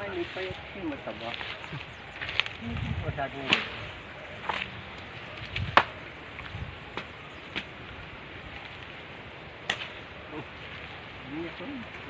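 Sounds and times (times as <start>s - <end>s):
rustling through undergrowth: 0.0s - 12.0s.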